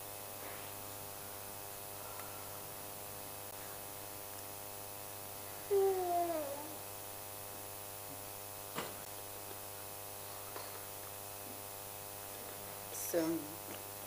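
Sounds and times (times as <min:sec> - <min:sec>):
buzzy electrical mains hum: 0:00.0 - 0:14.0.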